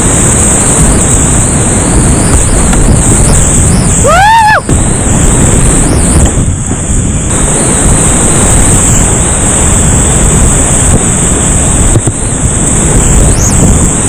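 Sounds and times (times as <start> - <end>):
creek whitewater rushing: 0.0 - 14.0.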